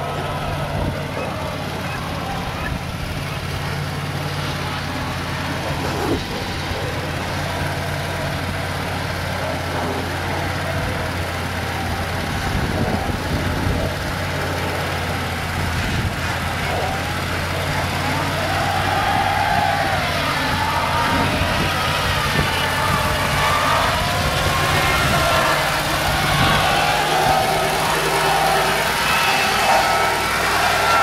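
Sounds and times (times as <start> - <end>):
truck and tractor engines idling: 0.0 - 31.0.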